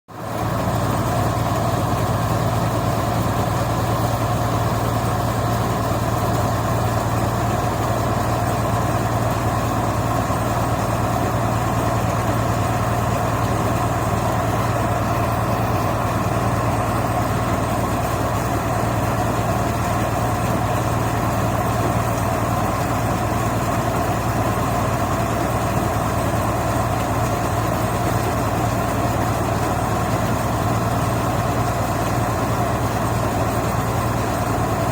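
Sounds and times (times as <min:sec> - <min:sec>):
heavy machine engine humming: 0:00.1 - 0:34.9.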